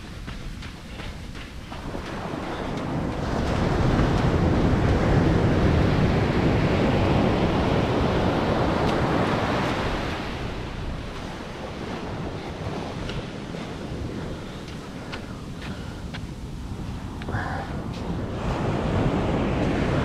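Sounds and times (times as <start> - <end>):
ocean surf breaking: 0.0 - 20.0
wind rumbling on microphone: 0.0 - 20.0.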